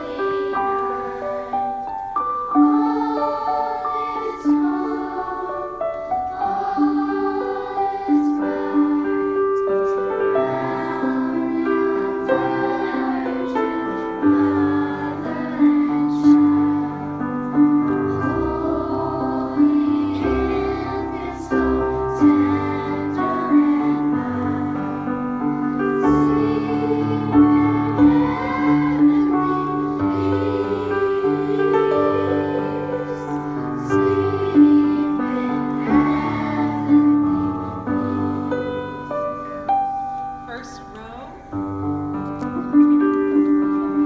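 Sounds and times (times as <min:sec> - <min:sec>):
choir singing: 0:00.0 - 0:41.1
piano accompaniment: 0:00.0 - 0:44.0.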